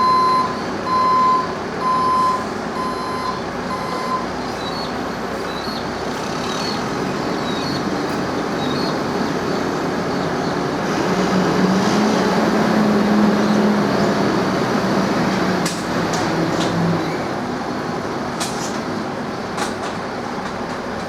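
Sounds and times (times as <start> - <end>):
heavy vehicle engine droning: 0.0 - 21.0.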